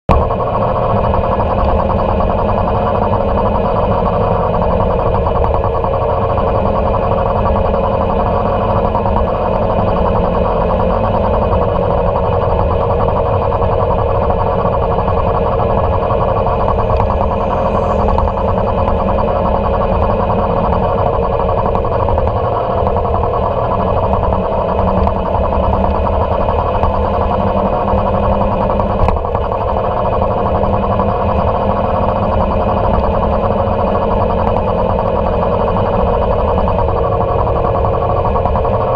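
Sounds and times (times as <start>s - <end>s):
motorcycle engine cruising: 0.1s - 38.9s
wind and road noise: 0.1s - 38.9s.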